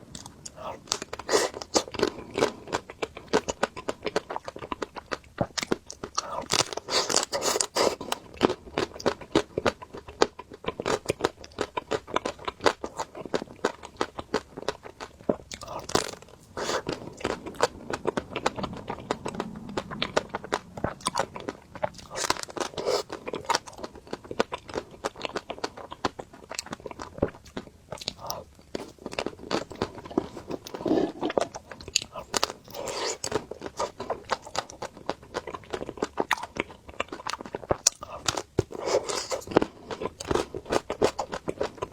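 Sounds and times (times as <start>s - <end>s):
crunching and chewing ice cream: 0.0s - 41.9s.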